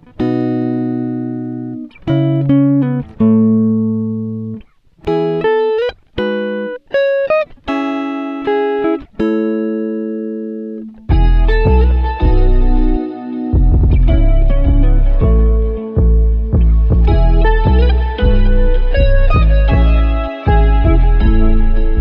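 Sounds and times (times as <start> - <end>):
plucked guitar chords: 0.0 - 22.0.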